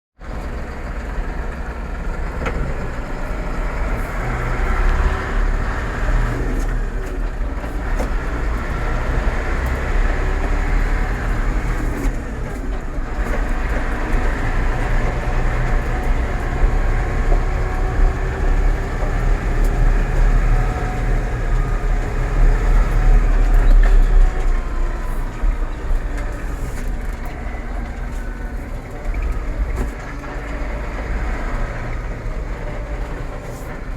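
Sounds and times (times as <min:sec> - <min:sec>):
tractor drivetrain rumble: 0:00.2 - 0:33.9
gearbox whine: 0:02.3 - 0:33.9.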